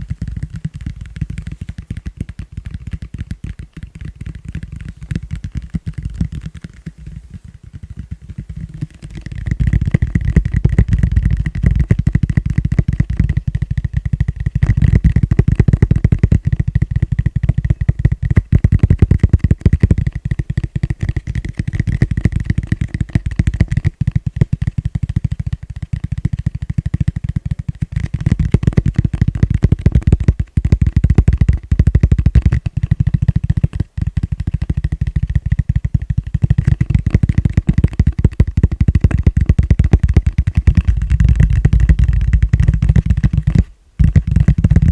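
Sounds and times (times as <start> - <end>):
fast tapping on plastic bowl: 0.0 - 44.9.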